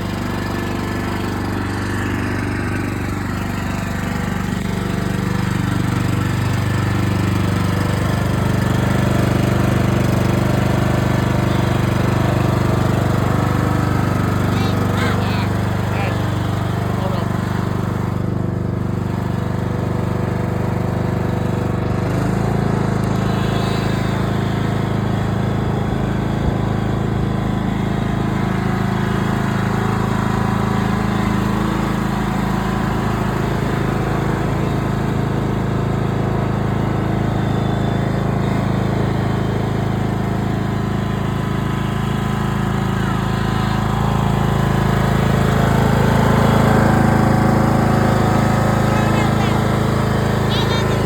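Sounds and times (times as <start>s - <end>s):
riding lawn mower engine running: 0.0s - 51.0s.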